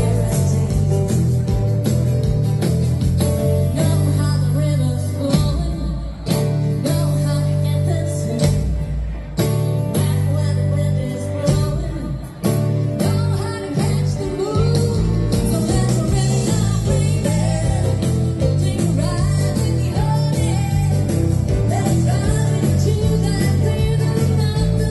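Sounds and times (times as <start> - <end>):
woman singing: 0.0 - 1.3, 3.6 - 8.9, 9.8 - 24.9
dance band playing: 0.0 - 24.9.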